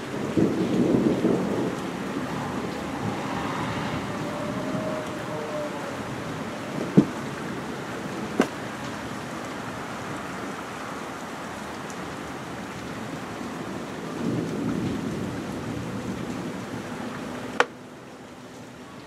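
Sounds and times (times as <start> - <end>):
thunder rumble: 0.0 - 10.6, 12.8 - 17.6
rain hissing: 0.0 - 19.0.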